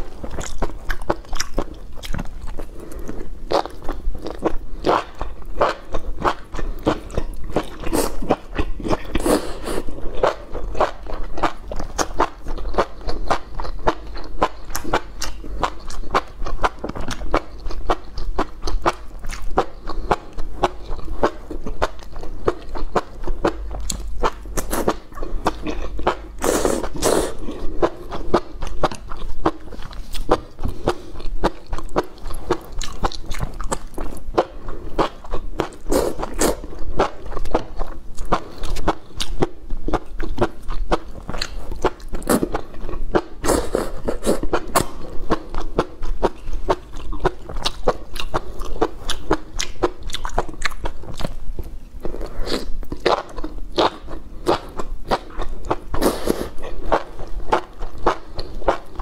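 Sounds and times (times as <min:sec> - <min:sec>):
wet chewing and slurping: 0:00.0 - 0:51.4.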